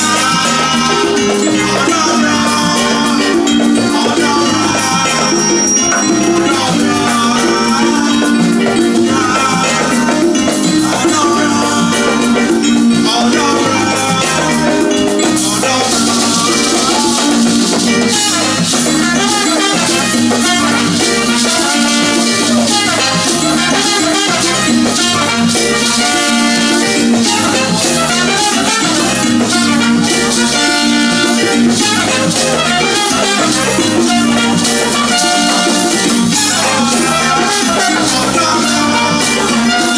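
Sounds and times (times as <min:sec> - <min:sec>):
live band playing instrumental: 0:00.0 - 0:39.9
pulsing bass line: 0:00.0 - 0:39.9
rattling shaker percussion: 0:00.0 - 0:39.9.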